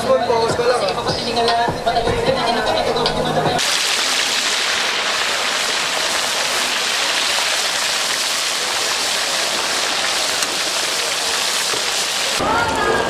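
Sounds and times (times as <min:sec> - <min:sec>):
oil sizzling and bubbling: 0:01.8 - 0:12.4.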